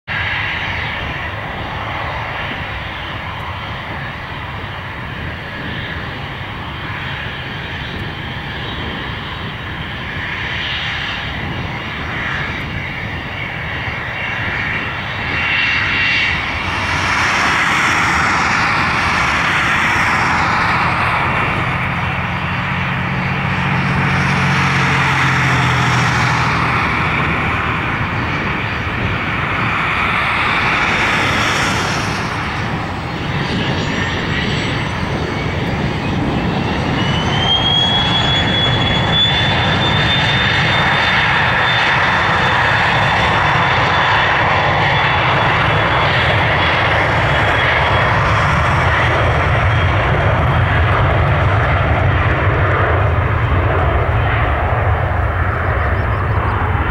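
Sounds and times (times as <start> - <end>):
jet engines spooling up: 0.2 - 56.9.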